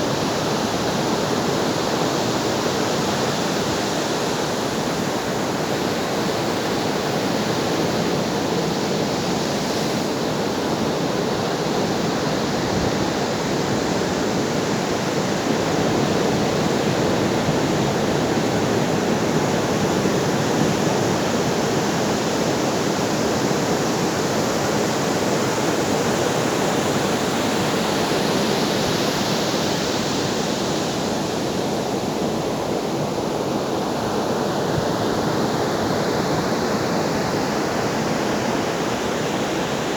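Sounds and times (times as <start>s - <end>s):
ocean surf washing onto shore: 0.0s - 39.9s.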